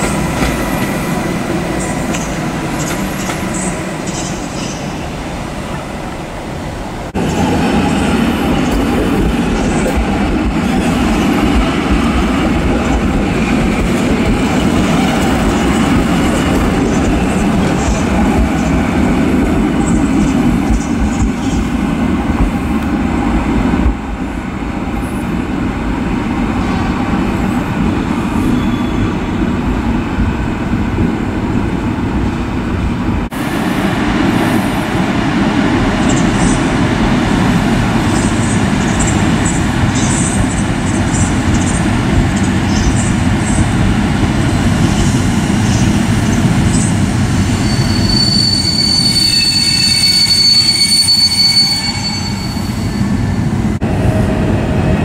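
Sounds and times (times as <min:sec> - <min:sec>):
train coaches rolling: 0:00.0 - 0:23.2, 0:33.3 - 0:55.0
electric locomotive pulling train: 0:00.0 - 0:55.0.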